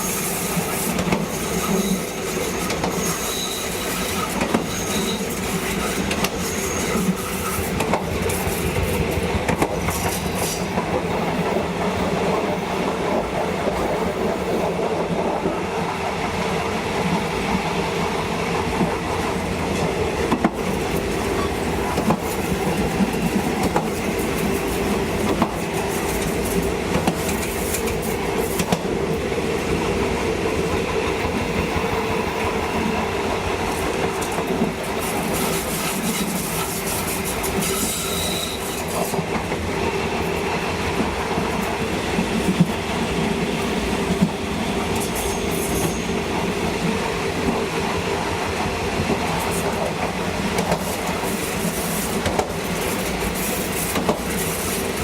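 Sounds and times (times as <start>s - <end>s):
train running on track: 0.0s - 55.0s.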